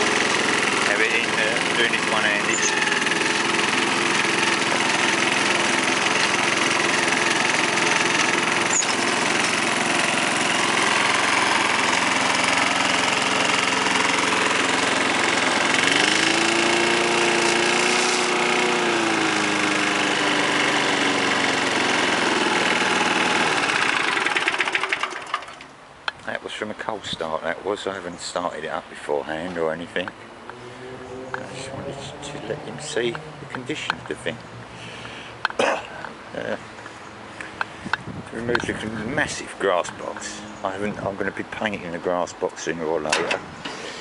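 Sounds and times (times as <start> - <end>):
lawnmower engine running: 0.0 - 25.8, 30.2 - 41.1, 42.9 - 44.0.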